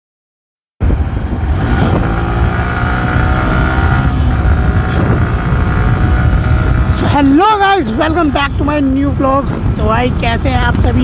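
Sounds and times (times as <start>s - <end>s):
motorcycle engine running: 0.8s - 11.0s.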